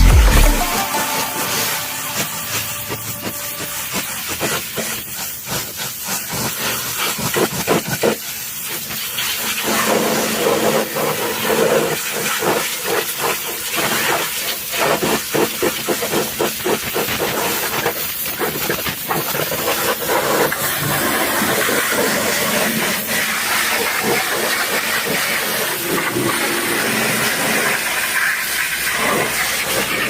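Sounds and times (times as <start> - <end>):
pressure washer spraying water: 2.4 - 14.6, 17.0 - 30.0.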